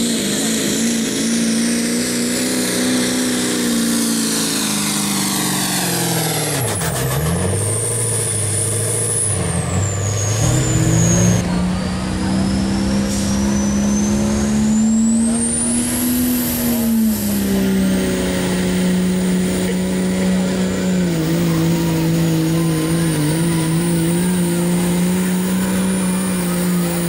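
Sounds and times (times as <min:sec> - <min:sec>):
diesel engine at full throttle: 0:00.0 - 0:27.0
turbocharger whistle: 0:00.0 - 0:27.0.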